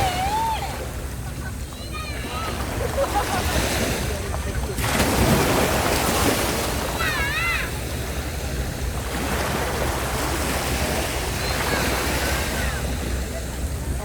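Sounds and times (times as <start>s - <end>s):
sea waves on a beach: 0.0s - 14.0s.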